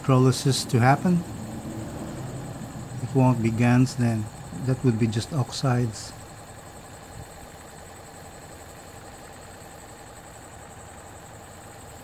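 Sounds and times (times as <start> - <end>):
faint high whine: 0.0 - 12.0
machine hum: 0.0 - 12.0.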